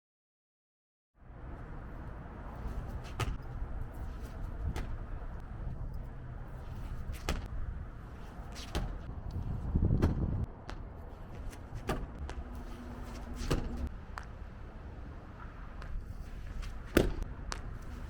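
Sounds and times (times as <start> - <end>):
low rush of noise: 1.2 - 18.0.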